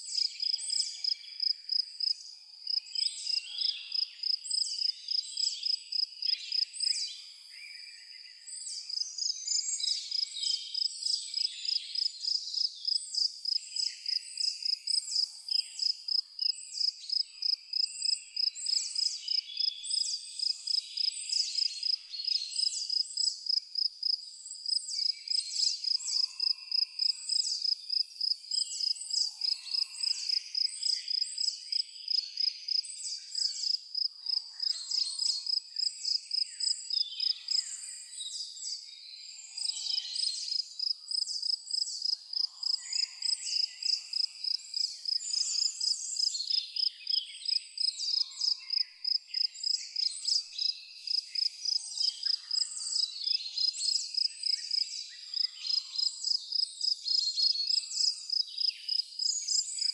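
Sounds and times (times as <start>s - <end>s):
cricket chirping: 0.0s - 7.6s, 8.9s - 59.9s
birds singing: 2.7s - 59.9s.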